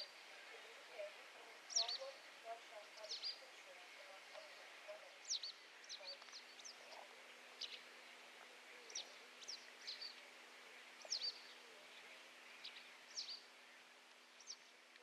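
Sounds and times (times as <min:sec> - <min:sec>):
faint high bird chirps: 0:00.0 - 0:14.7.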